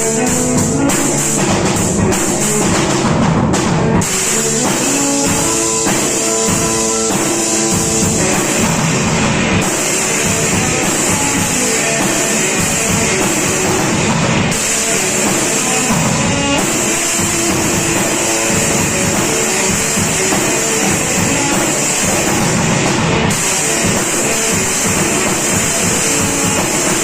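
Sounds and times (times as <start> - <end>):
loud rock music: 0.0 - 27.0.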